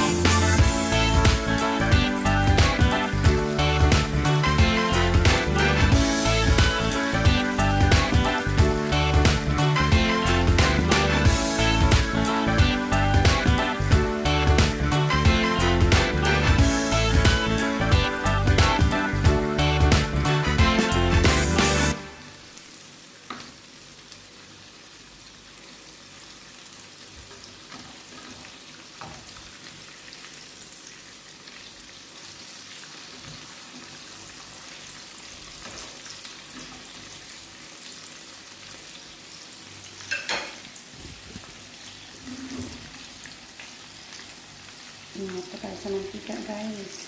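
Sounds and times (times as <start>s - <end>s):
chicken frying in oil: 0.0s - 47.0s.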